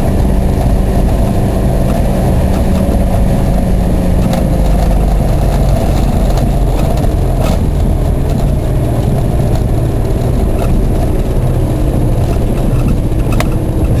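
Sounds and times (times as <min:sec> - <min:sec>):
car engine drone in cabin: 0:00.0 - 0:14.0
road noise: 0:00.0 - 0:14.0
wind noise: 0:00.0 - 0:14.0.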